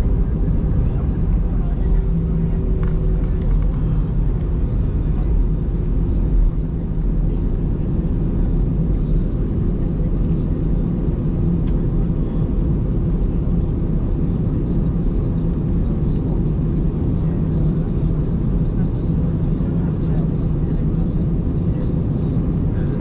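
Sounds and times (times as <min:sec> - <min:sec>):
jet airliner cabin rumble: 0:00.0 - 0:23.0.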